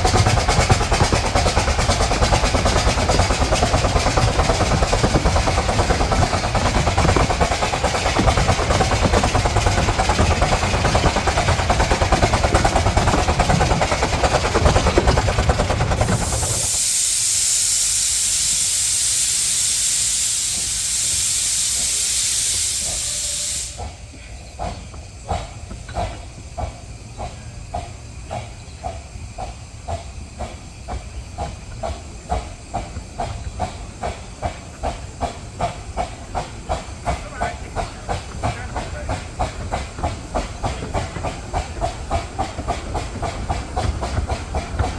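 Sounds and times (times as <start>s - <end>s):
steam hissing: 0.0s - 44.9s
steam locomotive exhaust beats: 0.0s - 44.9s.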